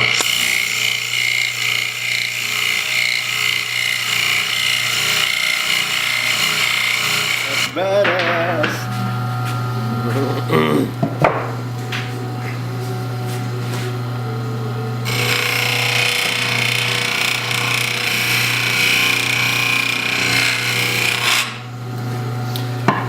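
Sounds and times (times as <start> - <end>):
wood lathe motor humming: 0.0 - 11.1, 13.1 - 23.0.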